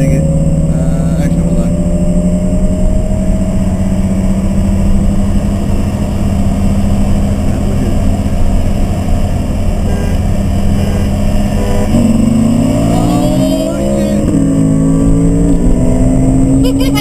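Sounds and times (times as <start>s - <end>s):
road and wind noise: 0.0s - 17.0s
sports car engine pulling hard: 0.0s - 17.0s.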